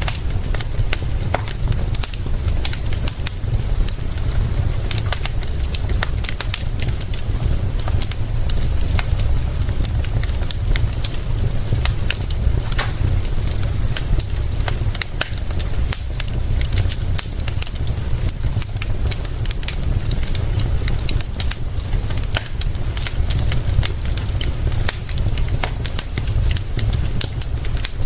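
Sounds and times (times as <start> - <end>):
low rumble: 0.0 - 25.4
rain hissing: 0.0 - 28.0
wood fire crackling: 0.0 - 28.0.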